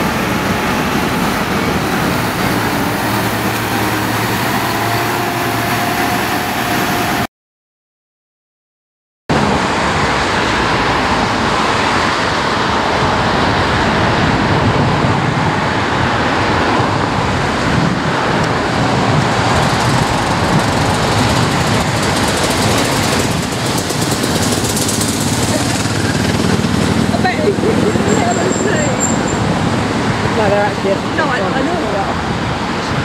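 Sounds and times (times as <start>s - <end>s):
road traffic noise: 0.0s - 7.3s, 9.3s - 33.0s.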